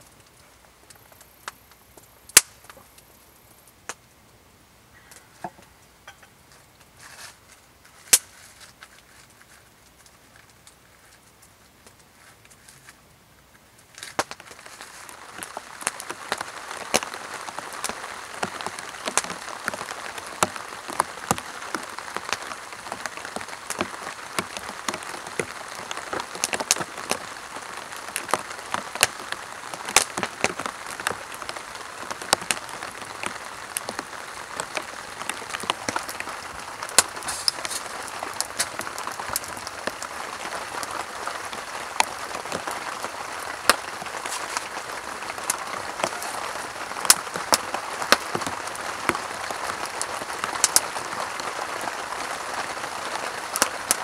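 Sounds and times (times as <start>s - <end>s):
rain drumming on tarp: 0.0s - 4.0s, 13.8s - 54.0s
campfire crackling and popping: 0.0s - 4.4s, 5.0s - 54.0s.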